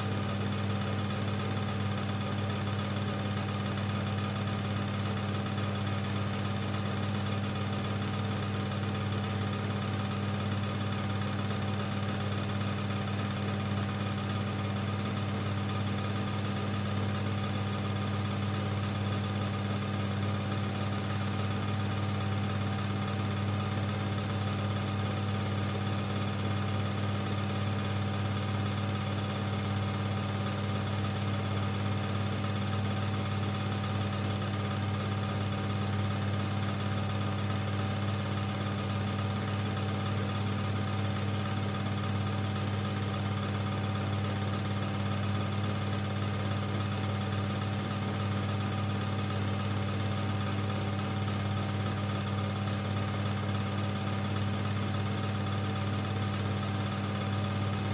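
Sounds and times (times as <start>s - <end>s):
film projector humming: 0.0s - 57.9s.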